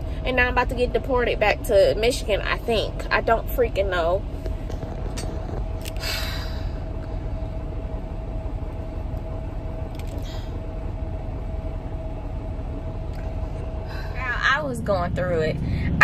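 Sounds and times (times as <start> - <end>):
thin steady hum: 0.0 - 16.0
truck engine rumble inside cab: 0.0 - 16.0.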